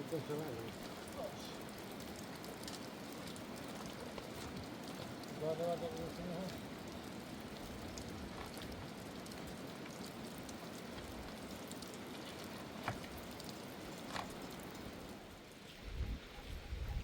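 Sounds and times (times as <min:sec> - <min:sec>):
heavy raindrop ticks: 0:00.0 - 0:15.3
steady rain falling: 0:00.0 - 0:16.4.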